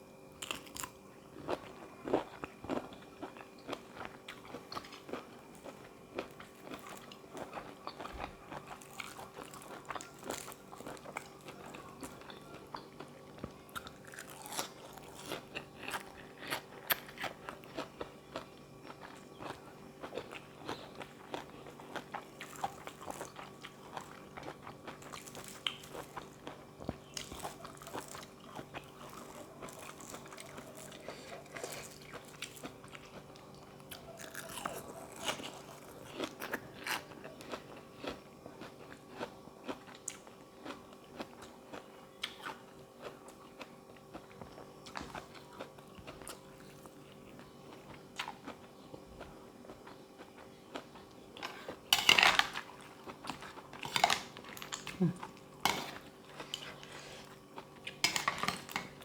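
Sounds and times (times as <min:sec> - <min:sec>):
person chewing and crunching: 0:00.3 - 0:59.0.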